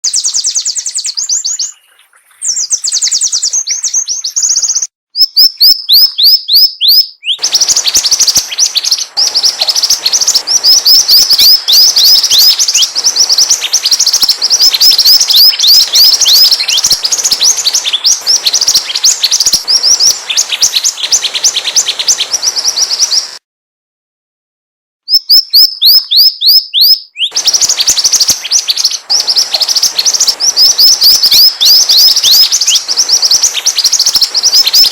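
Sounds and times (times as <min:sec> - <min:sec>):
bird chirping downward-sliding: 0:00.0 - 0:23.4, 0:25.1 - 0:34.9.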